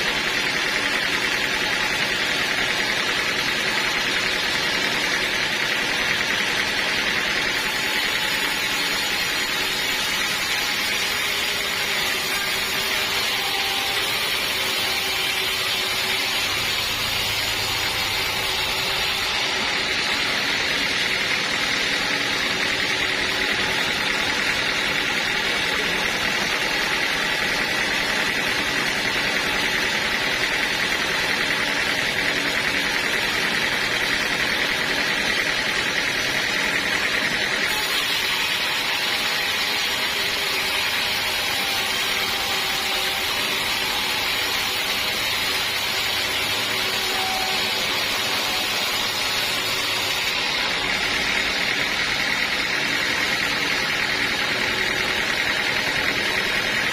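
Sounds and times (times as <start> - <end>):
high mechanical whine: 0.0 - 56.9
sawmill machinery running: 0.0 - 56.9.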